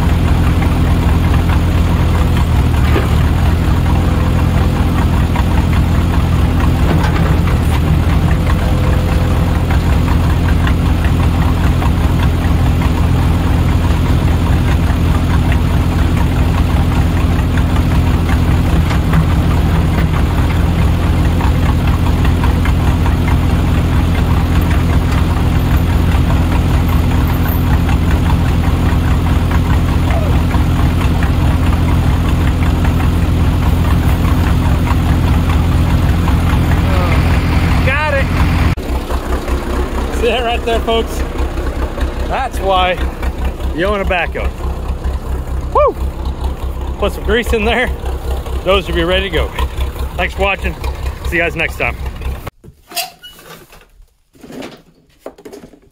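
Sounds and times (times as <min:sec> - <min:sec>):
diesel engine running steadily: 0:00.0 - 0:52.6.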